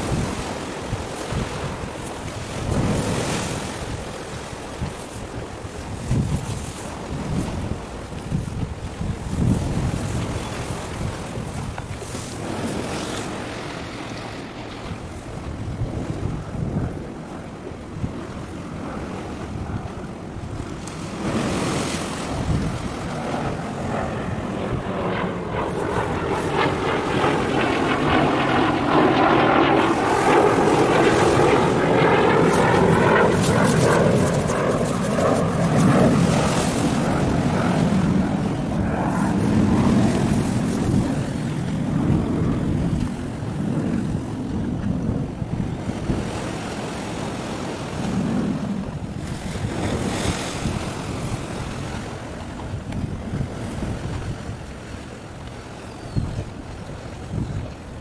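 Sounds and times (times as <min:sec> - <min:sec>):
aircraft engine passing over: 0:00.0 - 0:58.0.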